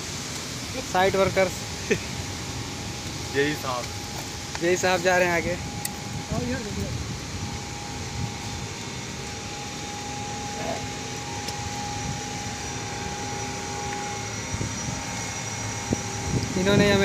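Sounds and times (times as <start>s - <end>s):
power plant machinery drone: 0.0s - 17.0s.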